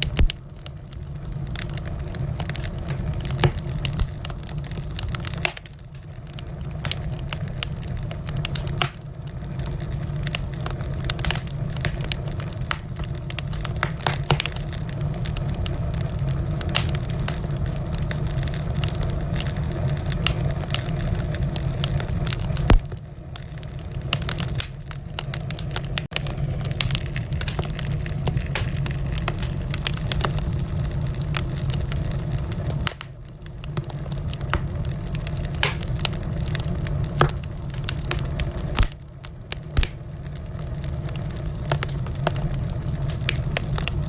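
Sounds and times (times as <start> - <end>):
low rumble of flames: 0.0 - 44.0
wood fire crackling: 0.0 - 44.0.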